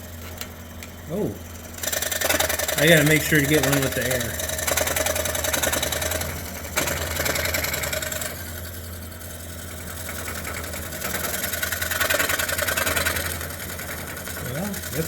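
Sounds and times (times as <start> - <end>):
scroll saw cutting wood: 1.8 - 9.0, 9.9 - 15.0.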